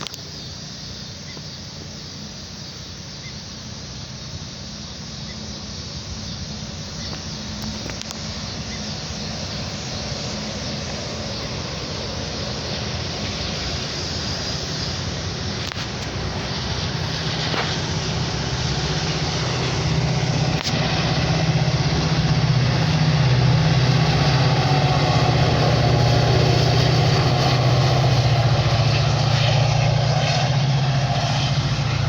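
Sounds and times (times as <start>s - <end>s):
train running: 0.0s - 32.0s.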